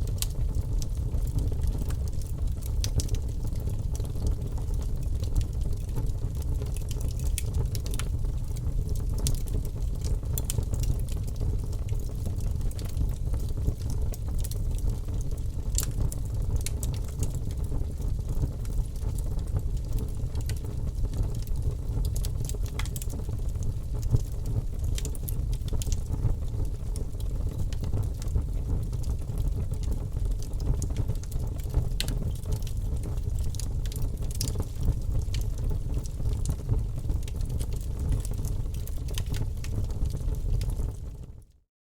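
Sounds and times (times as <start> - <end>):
fire low rumble: 0.0 - 41.3
logs crackling and popping: 0.1 - 41.0.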